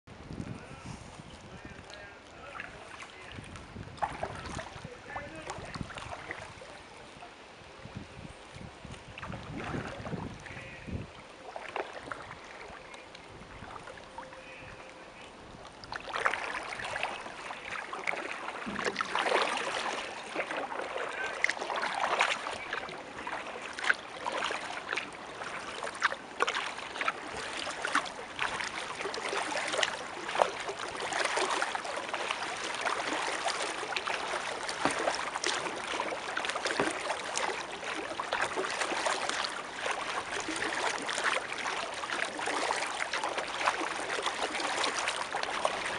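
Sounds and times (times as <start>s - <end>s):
water lapping on hull: 0.1s - 45.9s
paddle splashing: 0.2s - 45.9s.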